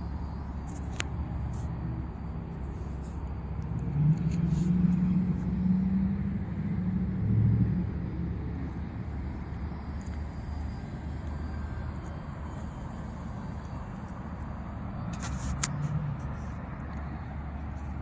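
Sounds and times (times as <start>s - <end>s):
model plane propeller droning: 0.0s - 18.0s
steady low rumble: 0.0s - 18.0s.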